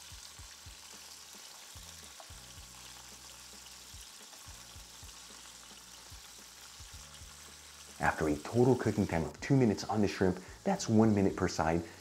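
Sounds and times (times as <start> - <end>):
shrimp sizzling in oil: 0.0 - 12.0.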